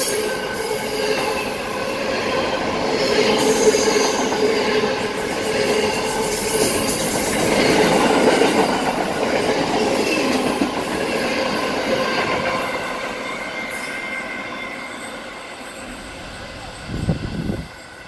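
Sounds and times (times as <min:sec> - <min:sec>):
steel wheels squealing: 0:00.0 - 0:08.7, 0:10.0 - 0:18.0
train wagons rolling on rails: 0:00.0 - 0:18.0.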